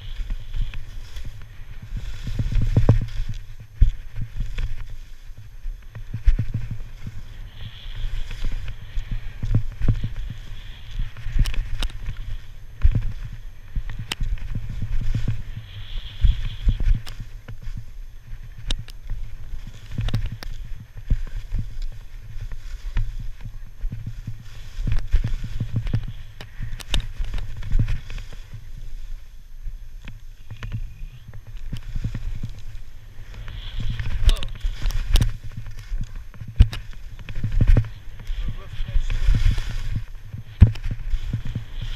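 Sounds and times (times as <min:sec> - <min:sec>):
skis hissing and scraping on snow: 0:00.0 - 0:41.9
wind rumble on microphone: 0:00.0 - 0:41.9.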